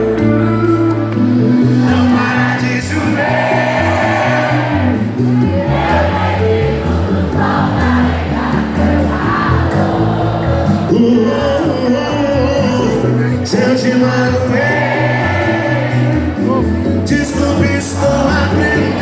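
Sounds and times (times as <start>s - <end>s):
live band music: 0.0s - 19.0s
crowd singing along: 1.1s - 19.0s.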